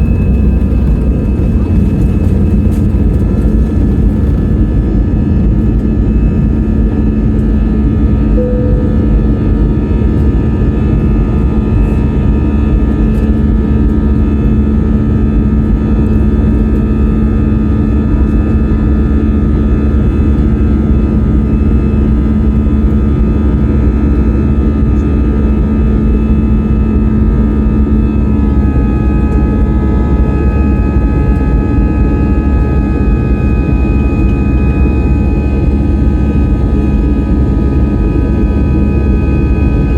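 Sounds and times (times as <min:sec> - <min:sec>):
jet engines rumbling in cabin: 0:00.0 - 0:39.9
low hum: 0:00.0 - 0:39.9.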